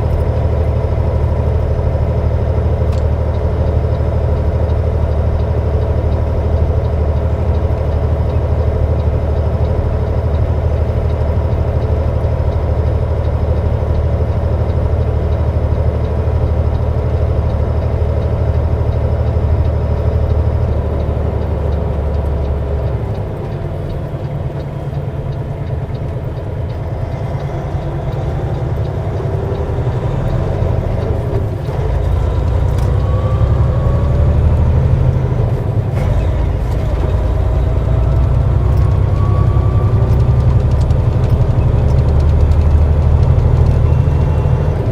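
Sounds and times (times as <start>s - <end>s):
diesel engine drone: 0.0s - 44.9s.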